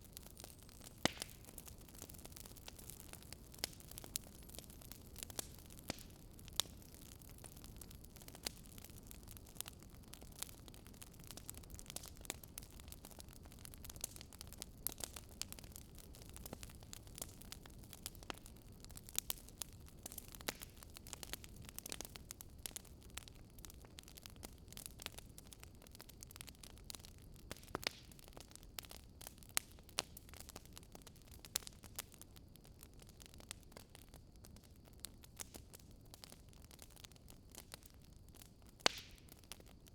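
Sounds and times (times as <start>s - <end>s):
wood fire pops and snaps: 0.0s - 32.3s, 35.0s - 39.8s
low rumble of flames: 0.0s - 39.9s.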